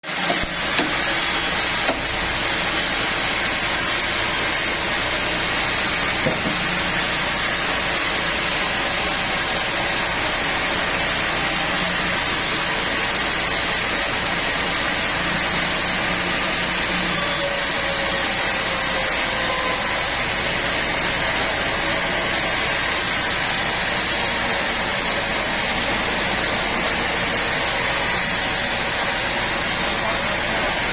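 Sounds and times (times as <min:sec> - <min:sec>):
sawmill machinery running: 0:00.0 - 0:30.9.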